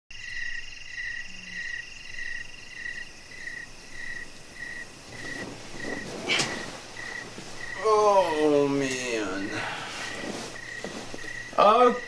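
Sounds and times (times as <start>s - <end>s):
crickets chirping: 0.1s - 12.0s
high insect trill: 0.1s - 12.0s.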